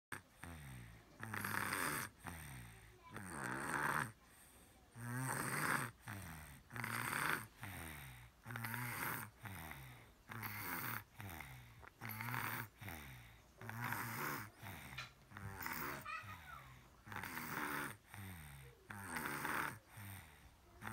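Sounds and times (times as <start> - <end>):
baby snoring: 0.1 - 20.9.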